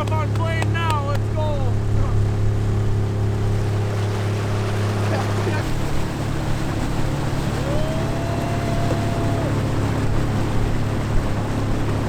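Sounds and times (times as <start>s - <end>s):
outboard motor at full throttle: 0.0s - 12.0s.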